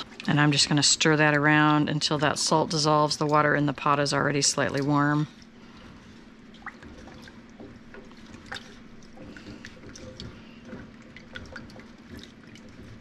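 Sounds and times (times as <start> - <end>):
water sloshing: 0.0 - 13.0.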